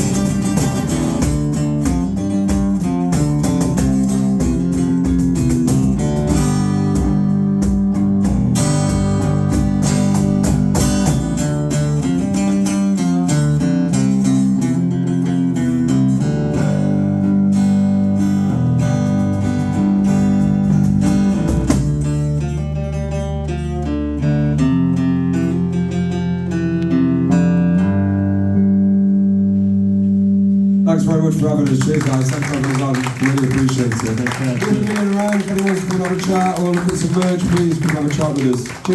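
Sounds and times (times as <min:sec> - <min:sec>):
guitar strumming chords: 0:00.0 - 0:38.9.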